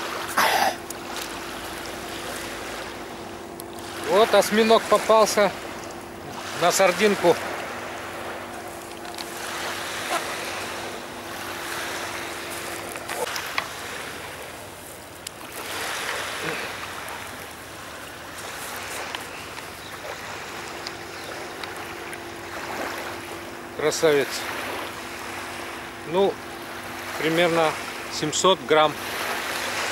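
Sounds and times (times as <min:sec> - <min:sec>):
small waves washing onto beach: 0:00.0 - 0:29.9.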